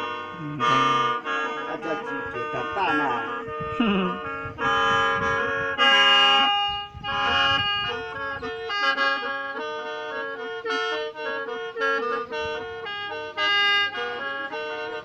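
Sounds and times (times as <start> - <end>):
mouth organ playing chords: 0.0 - 15.0
steady drone note: 0.0 - 15.0.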